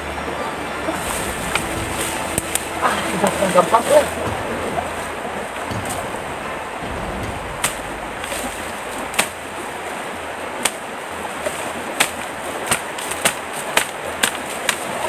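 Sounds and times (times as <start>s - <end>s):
river water rushing: 0.0s - 15.0s
blade chopping bamboo: 1.0s - 10.0s, 10.6s - 15.0s.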